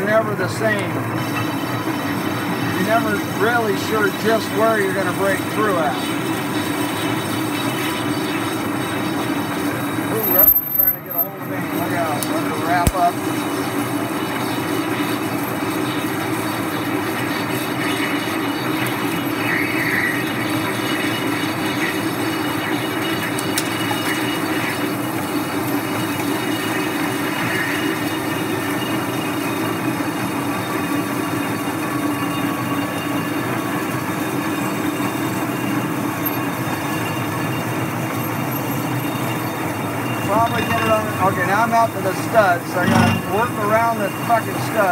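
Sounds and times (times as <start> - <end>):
low machine hum: 0.0 - 44.9
metal lathe cutting: 0.1 - 44.9.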